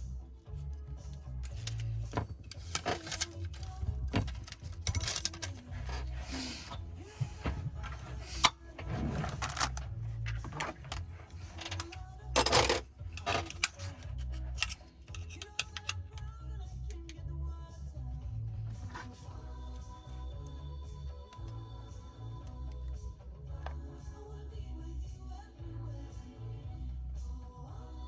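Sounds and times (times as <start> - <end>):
background music with bass: 0.0 - 28.0.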